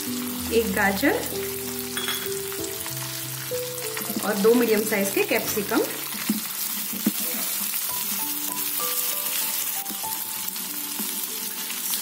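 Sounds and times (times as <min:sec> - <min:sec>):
soft background music: 0:00.0 - 0:12.0
vegetables sizzling in hot oil: 0:00.0 - 0:12.0.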